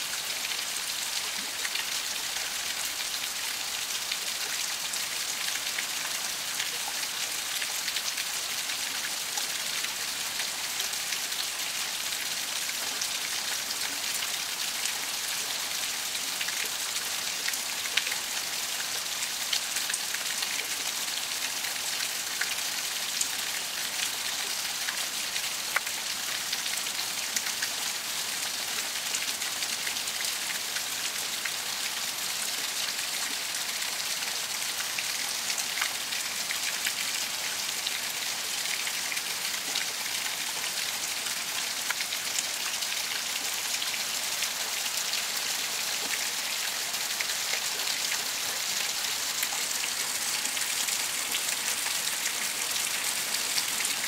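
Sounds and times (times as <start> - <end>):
pouring rain: 0.0 - 54.0.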